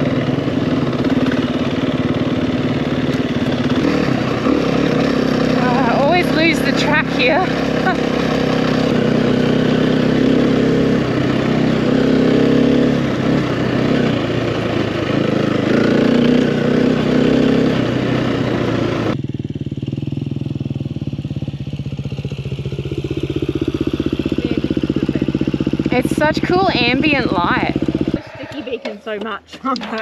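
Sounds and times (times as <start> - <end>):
dirt bike engine revving: 0.0 - 29.1
engine pulsing at low revs: 0.0 - 30.0.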